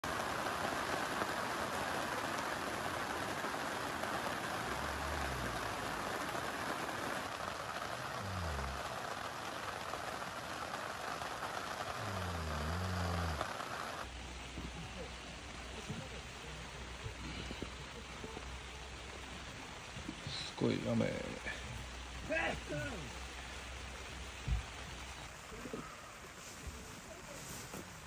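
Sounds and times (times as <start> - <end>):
heavy rain on a tent: 0.0 - 28.0.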